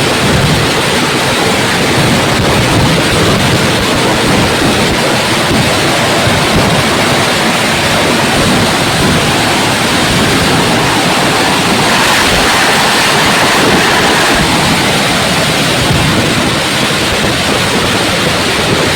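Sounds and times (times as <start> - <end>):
fireworks crackling: 0.0 - 18.8.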